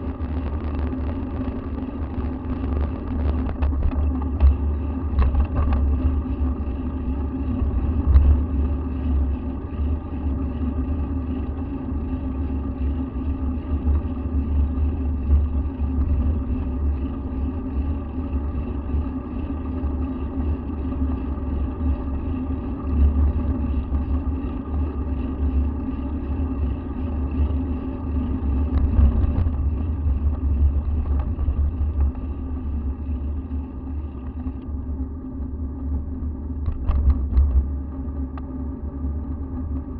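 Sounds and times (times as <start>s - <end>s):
road vibration: 0.0s - 39.9s.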